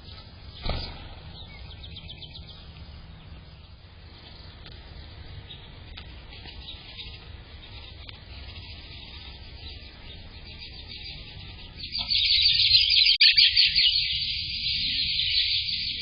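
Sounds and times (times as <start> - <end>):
bird singing high-pitched song: 0.0 - 3.8, 5.4 - 16.0
faint background noise: 0.0 - 16.0.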